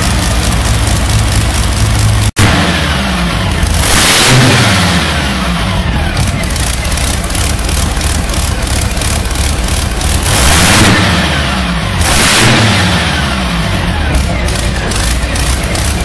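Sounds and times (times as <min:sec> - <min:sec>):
tractor engine revving loud: 0:00.0 - 0:16.0.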